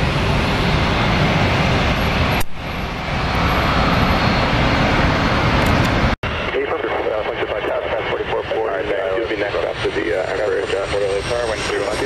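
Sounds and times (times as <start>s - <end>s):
jet aircraft engine roar: 0.0s - 12.0s.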